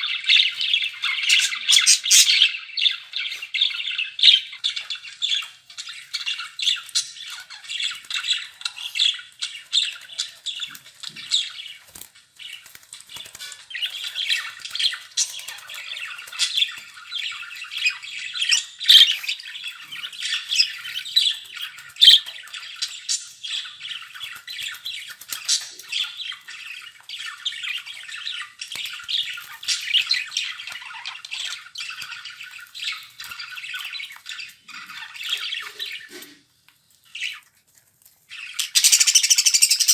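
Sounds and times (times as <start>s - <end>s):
budgerigars chattering: 0.0s - 11.8s, 13.2s - 36.4s, 38.3s - 39.9s.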